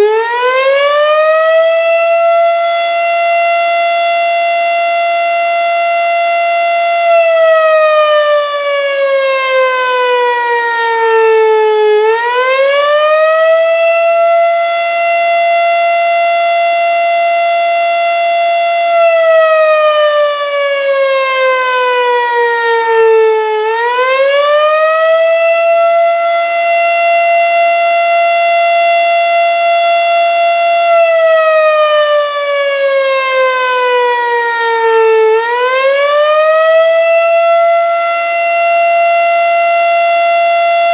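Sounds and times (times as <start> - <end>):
tornado siren wailing: 0.0 - 40.9.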